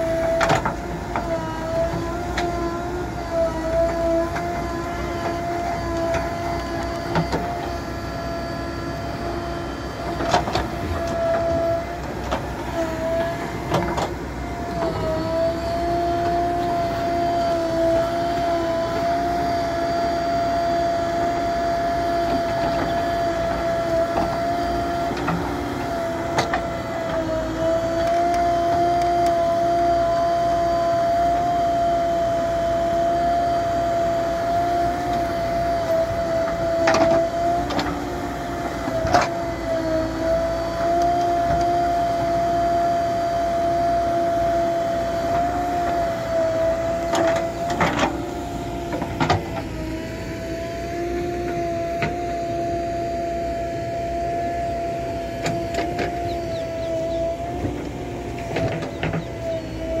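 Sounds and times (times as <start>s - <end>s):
diesel engine whining under load: 0.0s - 60.0s.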